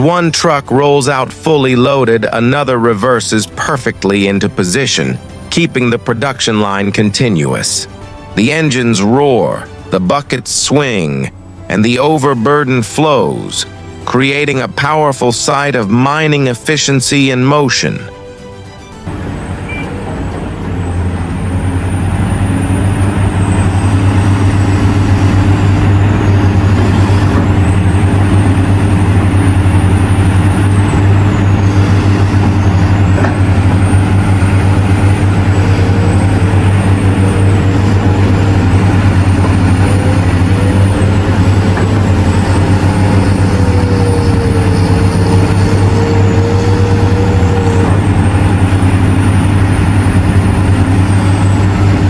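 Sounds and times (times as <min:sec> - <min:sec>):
high whine: 0:00.0 - 0:52.0
large diesel engines running: 0:00.0 - 0:52.0.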